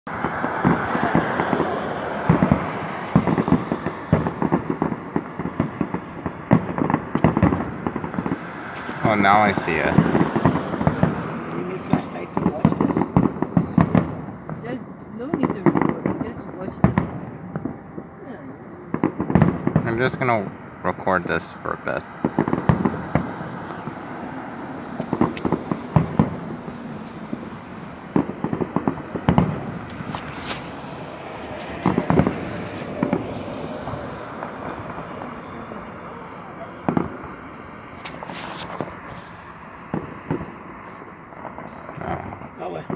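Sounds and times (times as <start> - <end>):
fireworks popping and banging: 0.1 - 42.9
fireworks hissing crackle: 0.6 - 14.7, 18.9 - 42.9.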